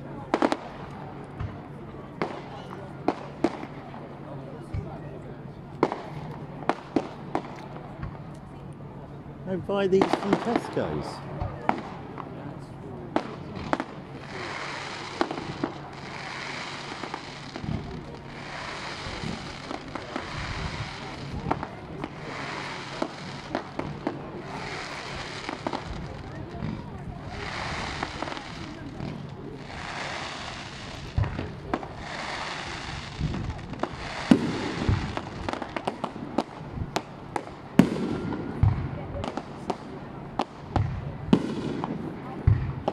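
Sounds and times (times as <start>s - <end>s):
firework bangs: 1.4s - 3.9s, 5.8s - 8.2s, 9.7s - 12.4s, 13.1s - 42.9s.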